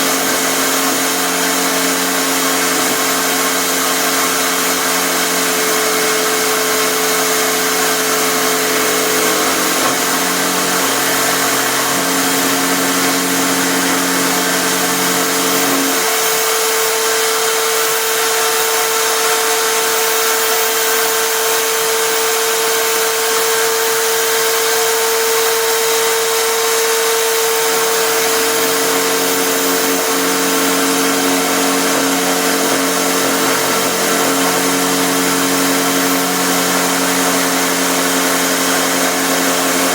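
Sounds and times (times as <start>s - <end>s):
electric drill router cutting wood: 0.0s - 39.9s.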